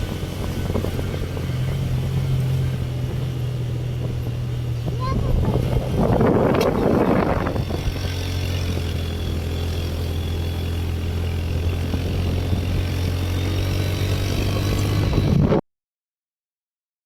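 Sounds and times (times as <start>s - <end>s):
engine running steadily: 0.0s - 15.6s.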